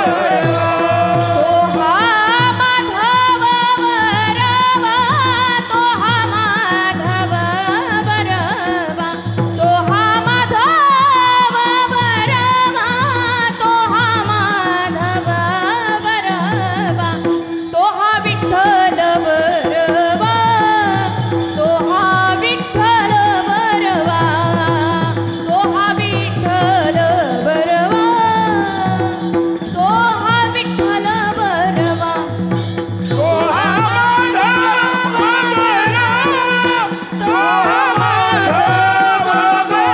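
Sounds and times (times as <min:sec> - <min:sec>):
drum rhythm: 0:00.0 - 0:14.7, 0:18.5 - 0:39.9
woman singing: 0:00.0 - 0:39.9.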